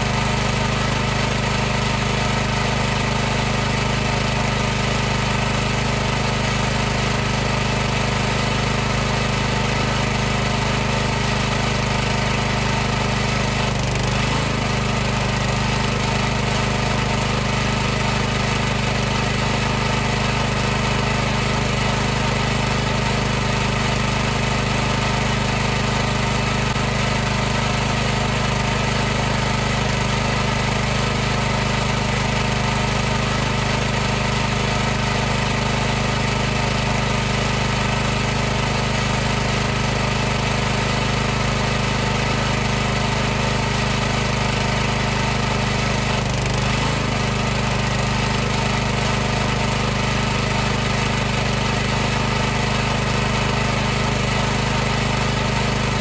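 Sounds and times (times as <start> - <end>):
pressure washer motor humming: 0.0 - 56.0.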